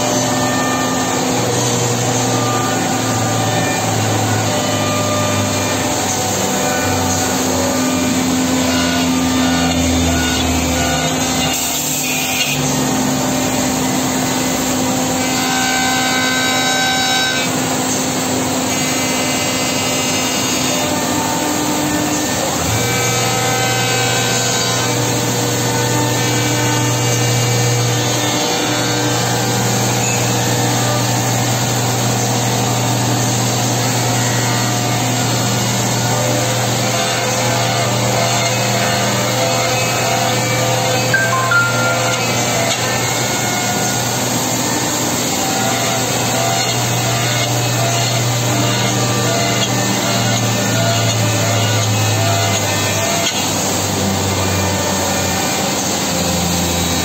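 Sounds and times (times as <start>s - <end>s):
woodworking machine cutting: 0.0s - 57.0s.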